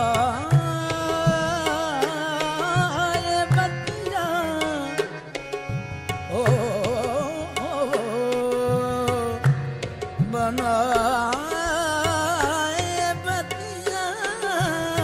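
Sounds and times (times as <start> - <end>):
man singing melismatic runs: 0.0 - 5.3, 6.3 - 15.0
harmonium notes: 0.0 - 15.0.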